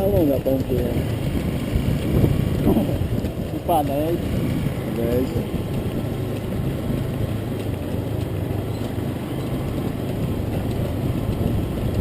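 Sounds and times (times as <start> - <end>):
vehicle engine at low speed: 0.0 - 12.0
wind noise on microphone: 0.0 - 12.0.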